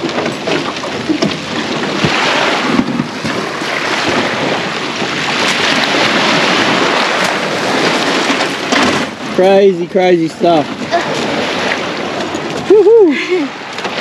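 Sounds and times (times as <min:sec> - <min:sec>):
small waves washing over rubble: 0:00.0 - 0:14.0
wind buffeting microphone: 0:00.0 - 0:14.0.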